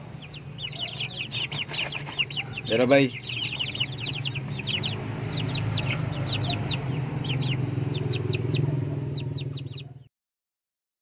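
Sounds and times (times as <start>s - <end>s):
chickens peeping: 0.0s - 10.1s.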